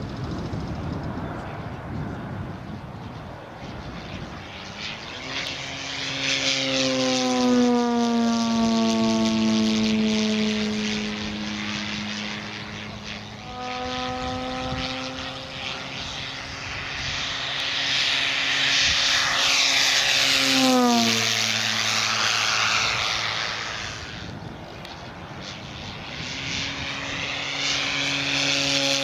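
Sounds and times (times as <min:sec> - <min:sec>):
model plane propeller drone: 0:00.0 - 0:29.0.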